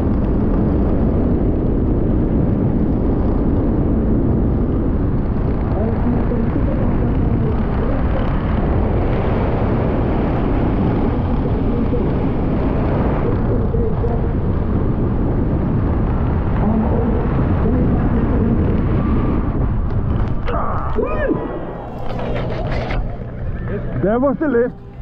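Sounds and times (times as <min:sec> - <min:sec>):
outdoor rumble and hiss: 0:00.0 - 0:25.0.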